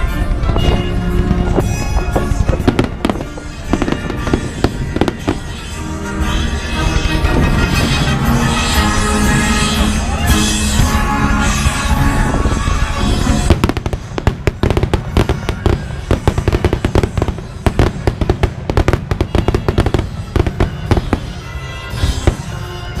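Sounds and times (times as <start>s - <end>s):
firework bangs and crackles: 0.0s - 23.0s
music playing: 0.0s - 23.0s.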